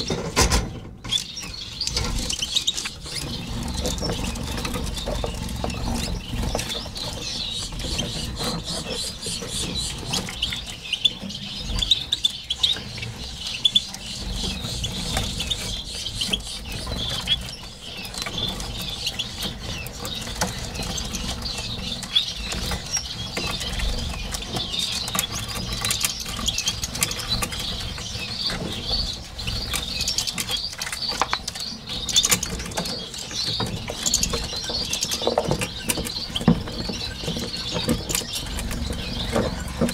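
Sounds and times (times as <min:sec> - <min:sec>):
plastic nest clicks and knocks: 0:00.0 - 0:39.9
finches chirping: 0:01.0 - 0:39.9.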